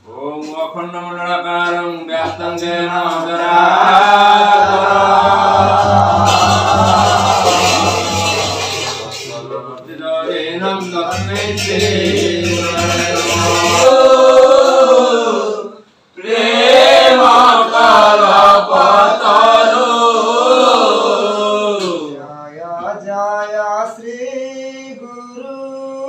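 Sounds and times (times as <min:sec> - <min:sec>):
men singing a chant: 0:00.1 - 0:26.0.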